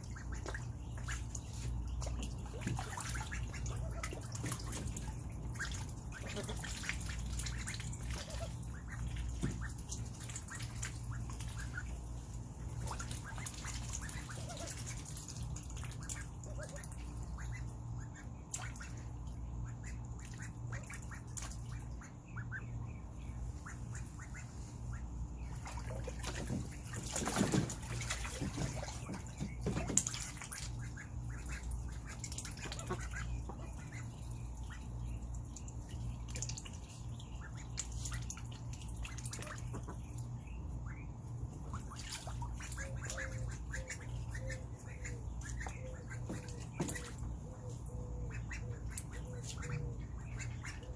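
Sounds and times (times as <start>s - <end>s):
ducklings splashing in water: 0.0s - 50.9s
steady low hum: 0.0s - 50.9s.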